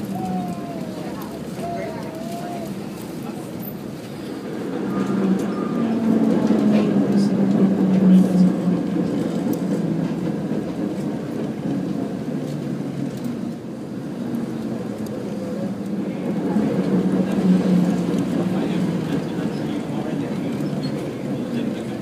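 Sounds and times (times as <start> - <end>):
streetcar rumbling on rails: 0.0 - 22.0.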